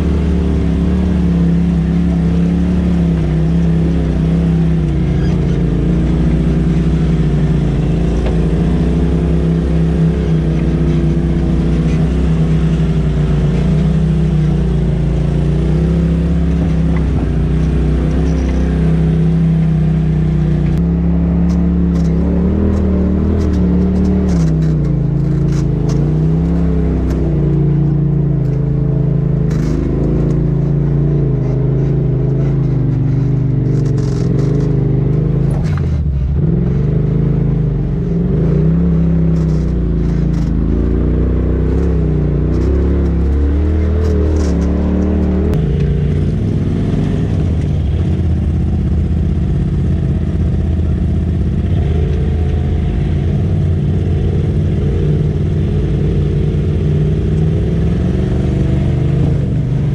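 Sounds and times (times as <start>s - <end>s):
utility vehicle engine at low revs: 0.0s - 59.9s.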